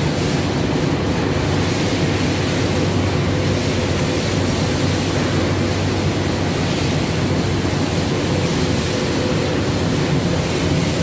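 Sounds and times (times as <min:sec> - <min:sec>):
water pump rushing: 0:00.0 - 0:11.0.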